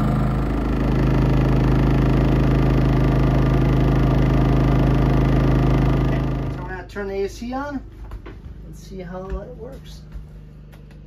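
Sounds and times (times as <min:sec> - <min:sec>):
generator engine hum: 0:00.0 - 0:11.0.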